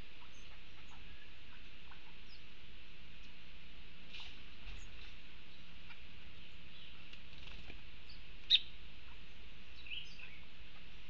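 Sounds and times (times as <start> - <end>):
wild bird calls: 0.0 - 2.5, 4.2 - 11.0.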